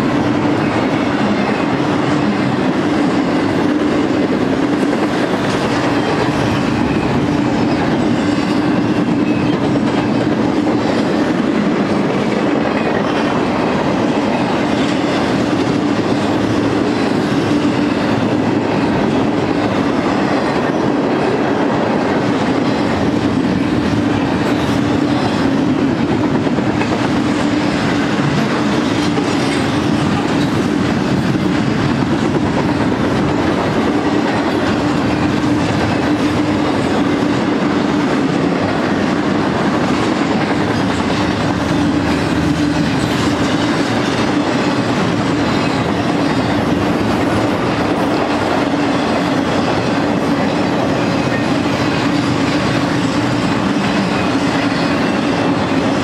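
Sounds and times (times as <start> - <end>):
freight train wheels rolling: 0.0 - 56.0.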